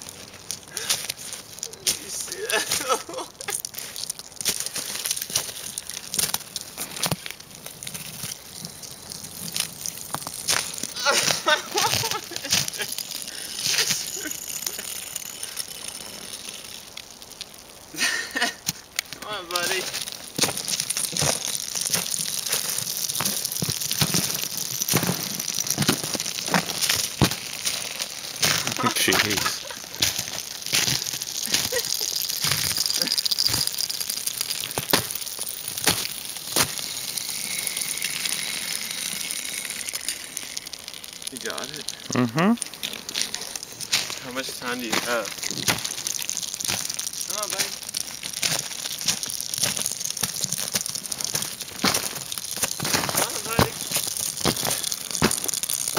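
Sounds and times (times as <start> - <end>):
faint steady hiss: 0.0 - 55.9
footsteps crunching on icy snow: 0.0 - 55.9.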